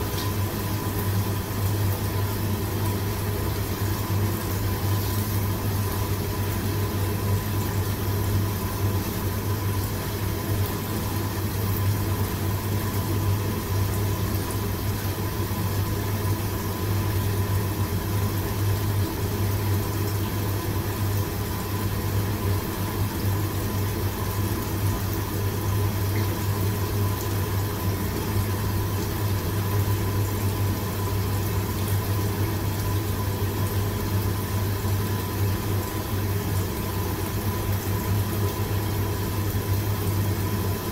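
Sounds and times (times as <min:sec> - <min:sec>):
gas burner hum and rush: 0:00.0 - 0:40.9
soup boiling: 0:00.0 - 0:40.9
water pouring from tap: 0:00.0 - 0:40.9.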